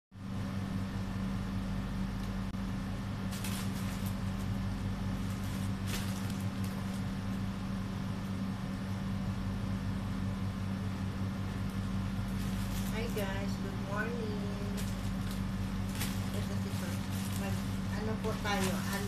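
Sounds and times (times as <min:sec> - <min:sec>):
low machine hum: 0:00.1 - 0:19.0.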